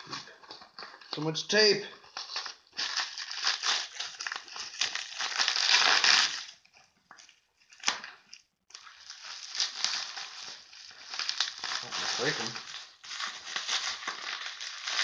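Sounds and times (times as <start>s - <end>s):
tape crinkling and tearing: 0.0s - 15.0s.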